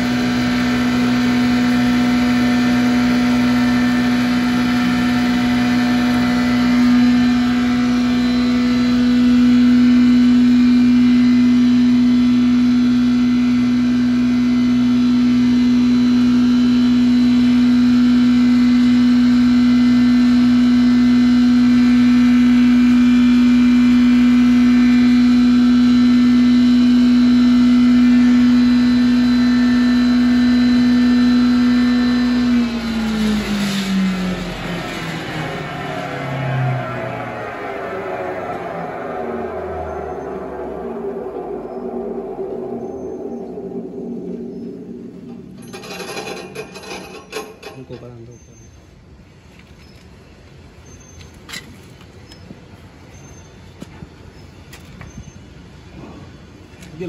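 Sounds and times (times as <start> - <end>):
grinder machine running: 0.0 - 48.2.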